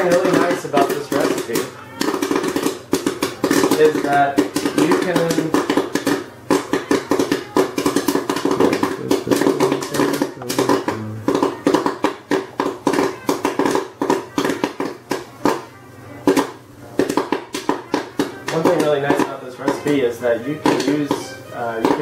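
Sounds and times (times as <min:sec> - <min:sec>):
background guitar music: 0:00.0 - 0:22.0
popcorn kernels popping: 0:00.0 - 0:22.0.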